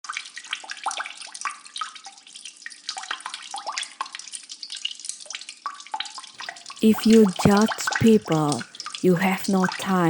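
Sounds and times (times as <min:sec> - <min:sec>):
water trickling and babbling: 0:00.0 - 0:10.0.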